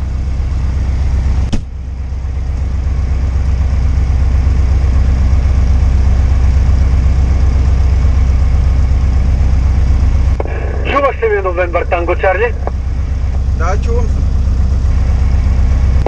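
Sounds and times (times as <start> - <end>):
aircraft piston engine idling: 0.0 - 16.0.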